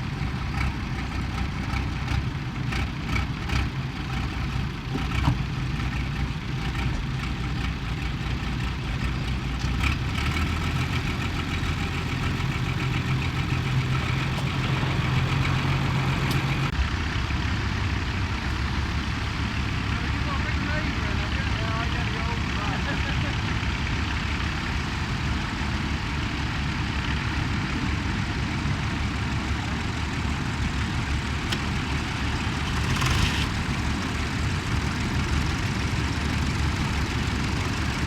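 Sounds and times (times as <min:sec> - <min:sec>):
tractor diesel engine idling: 0:00.0 - 0:38.0.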